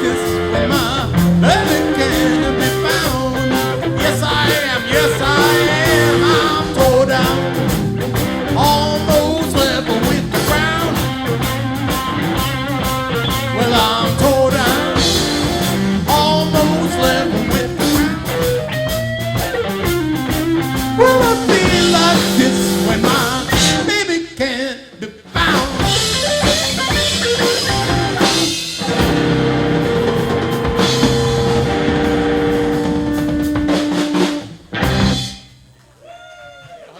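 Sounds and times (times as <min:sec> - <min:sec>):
lead guitar bending notes: 0:00.0 - 0:24.0, 0:25.8 - 0:35.5
steady drum beat: 0:00.0 - 0:24.1, 0:25.3 - 0:35.6
bass guitar: 0:00.0 - 0:36.0.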